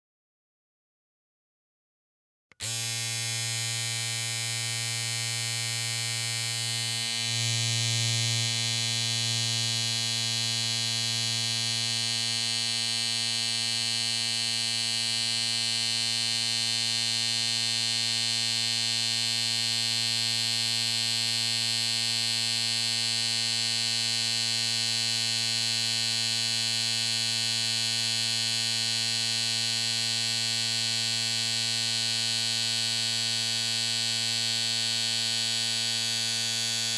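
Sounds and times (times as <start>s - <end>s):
electric hair clippers buzzing: 2.5s - 36.9s.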